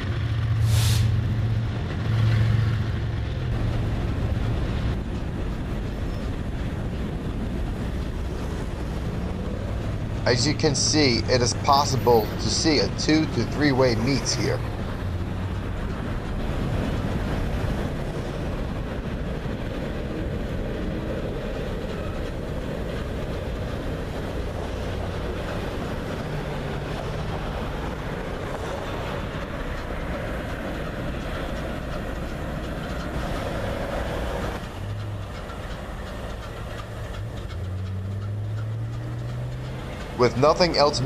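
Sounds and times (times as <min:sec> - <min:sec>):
diesel locomotive running: 0:00.0 - 0:41.0
train wheels clacking over rails: 0:00.0 - 0:41.0.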